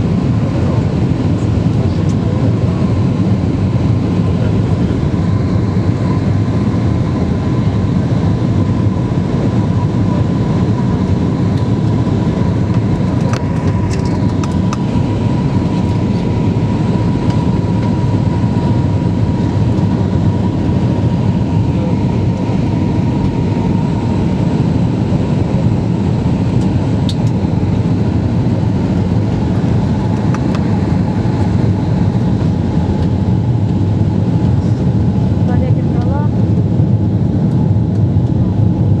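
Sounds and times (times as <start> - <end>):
jet engine and airflow rumble: 0.0 - 39.0.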